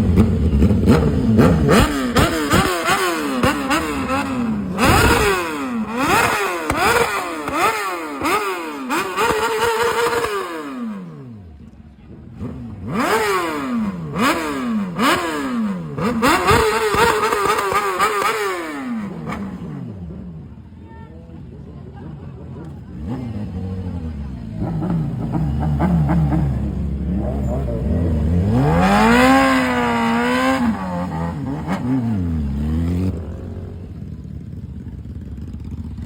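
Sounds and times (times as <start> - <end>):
motorcycle engine revving: 0.0 - 20.6, 22.6 - 36.0.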